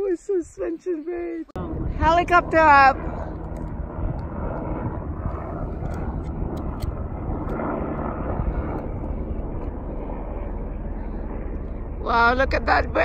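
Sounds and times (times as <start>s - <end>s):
helicopter flying: 0.0s - 13.0s.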